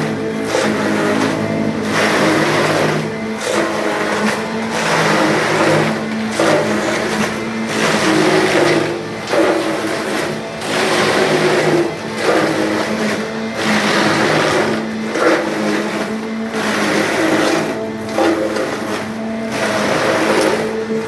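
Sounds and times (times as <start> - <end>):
grinding machine motor hum: 0.0 - 21.0
rushing whir: 0.0 - 21.0.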